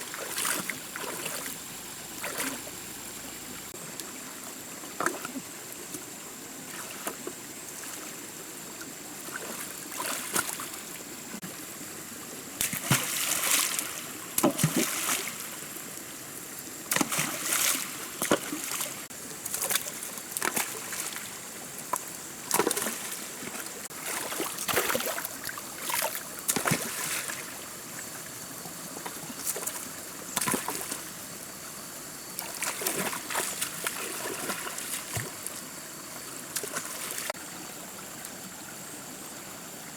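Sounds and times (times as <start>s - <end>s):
water splashing and sloshing: 0.0s - 38.6s.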